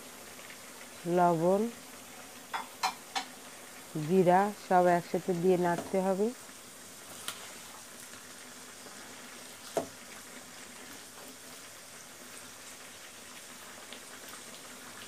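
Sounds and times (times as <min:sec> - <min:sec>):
beef sizzling in a wok: 0:00.0 - 0:15.0.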